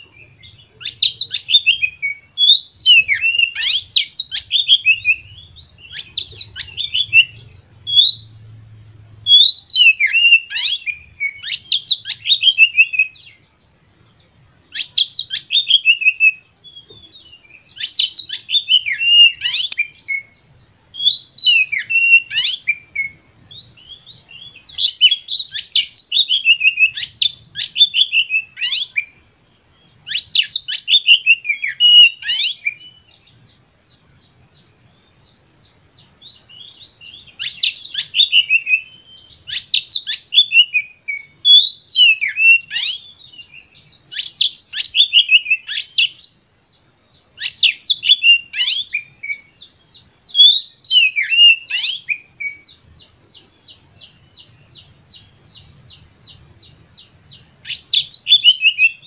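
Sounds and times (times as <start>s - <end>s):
bird singing chattering whistles: 0.0s - 8.6s, 9.2s - 13.4s, 14.7s - 59.0s.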